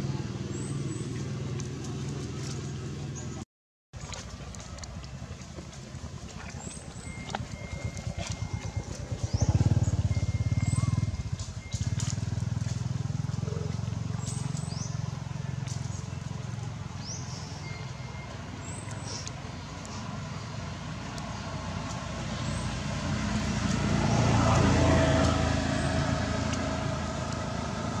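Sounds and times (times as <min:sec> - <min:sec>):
passing motor vehicle rumble: 0:00.0 - 0:03.4, 0:04.0 - 0:28.0.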